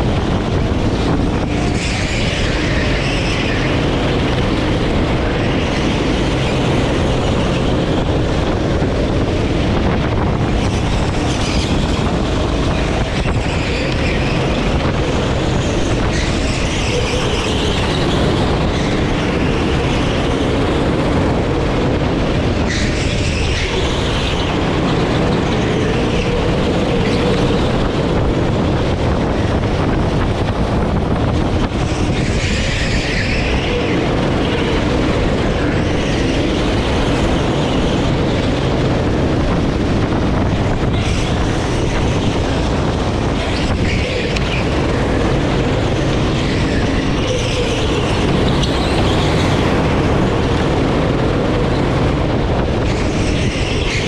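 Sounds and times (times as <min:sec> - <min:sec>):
wind and tyre noise: 0:00.0 - 0:54.0.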